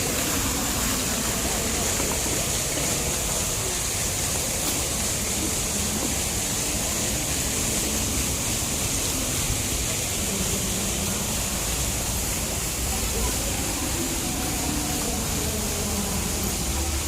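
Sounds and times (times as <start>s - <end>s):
street crowd: 0.0s - 17.0s
traffic: 0.0s - 17.0s.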